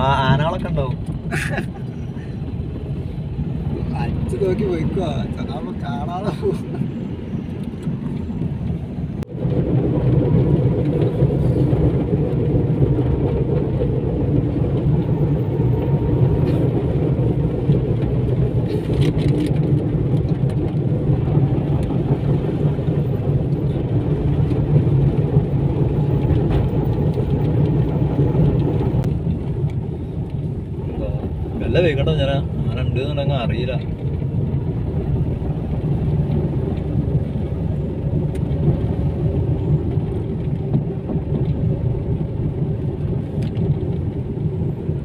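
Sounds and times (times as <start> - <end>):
car engine and tyre noise: 0.0 - 45.0.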